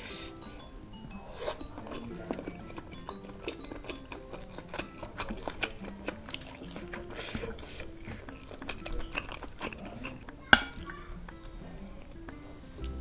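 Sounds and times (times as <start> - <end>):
cutlery clinking on a ceramic bowl: 0.0 - 11.5
mouth chewing: 0.0 - 13.0
soft background music: 0.0 - 13.0.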